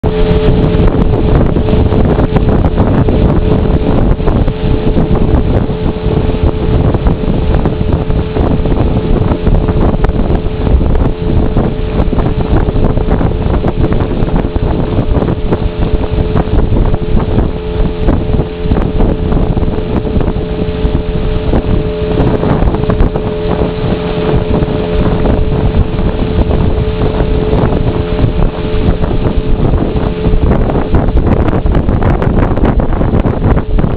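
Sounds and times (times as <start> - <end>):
motorboat engine droning: 0.0 - 33.9
wind buffeting microphone: 0.0 - 33.9.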